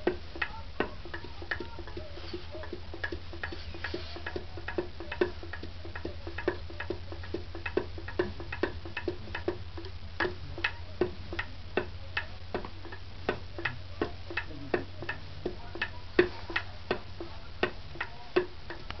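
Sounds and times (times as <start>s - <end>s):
pestle pounding in mortar: 0.0s - 19.0s.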